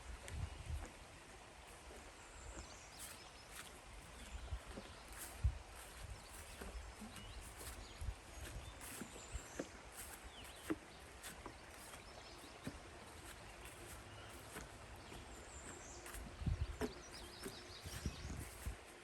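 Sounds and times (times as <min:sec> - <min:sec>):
footsteps crunching on dirt: 0:00.0 - 0:19.0.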